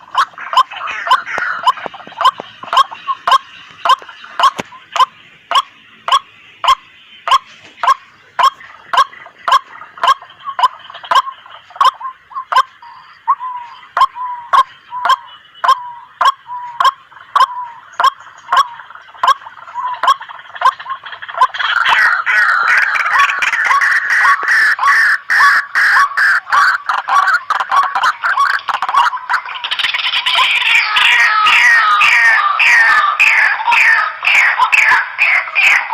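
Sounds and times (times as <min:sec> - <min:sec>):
dense bird chattering: 0:00.0 - 0:35.9
waterhen calling sharp notes: 0:00.0 - 0:35.9.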